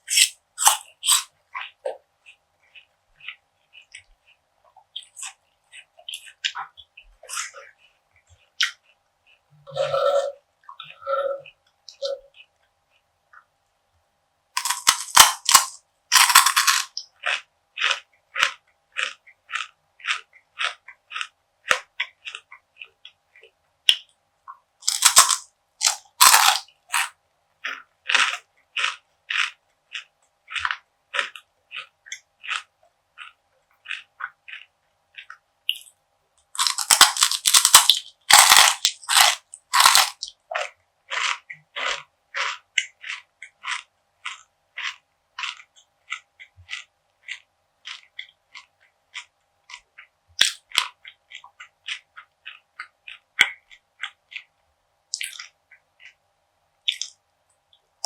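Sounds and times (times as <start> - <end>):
biting and chewing crisp brittle: 0.0 - 10.0, 14.6 - 56.2, 56.8 - 57.9.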